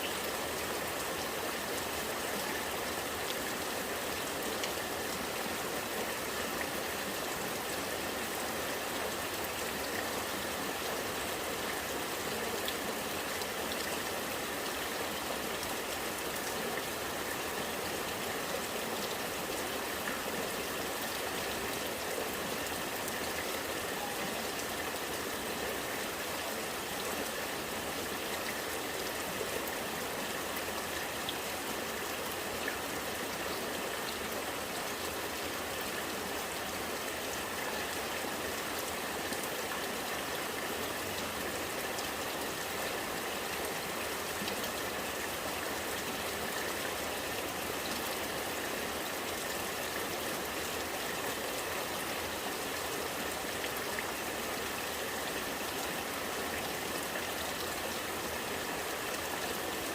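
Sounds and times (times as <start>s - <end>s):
rainwater running and gurgling: 0.0s - 59.9s.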